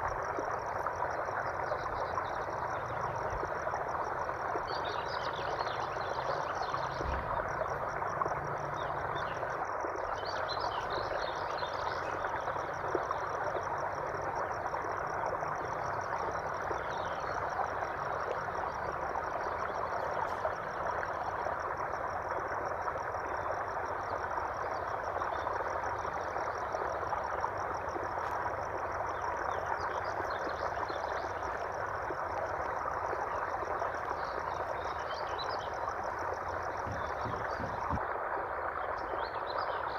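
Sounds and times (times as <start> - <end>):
flowing water: 0.0 - 39.9
high pulsing trill of frogs: 0.0 - 39.9.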